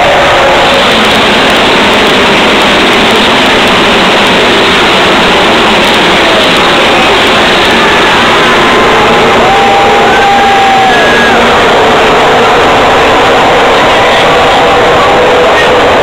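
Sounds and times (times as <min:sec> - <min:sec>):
race car engines at full throttle: 0:00.0 - 0:16.0.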